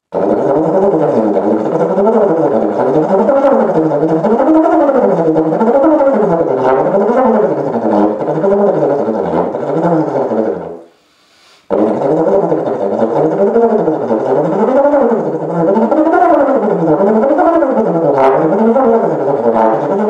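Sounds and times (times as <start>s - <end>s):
trombone sliding melody: 0.1s - 10.8s, 11.7s - 20.0s.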